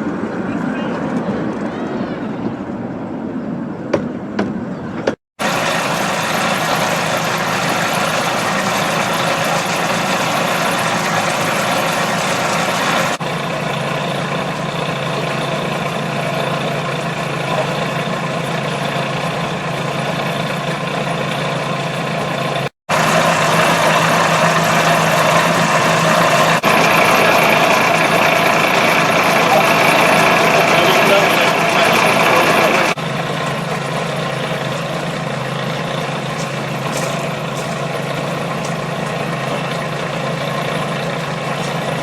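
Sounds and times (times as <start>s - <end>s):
locomotive running: 5.0s - 42.0s.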